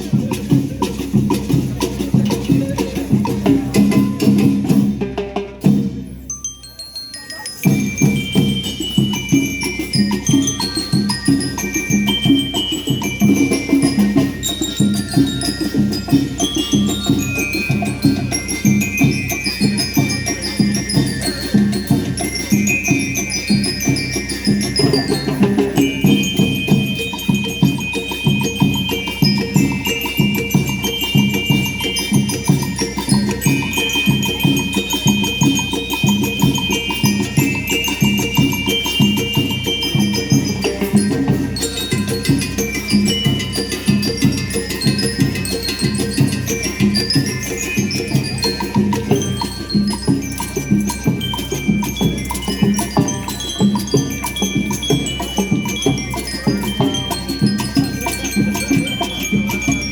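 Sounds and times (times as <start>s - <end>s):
marching drums beat: 0.0s - 6.0s, 7.7s - 59.9s
bell lyres playing melody: 0.0s - 59.9s.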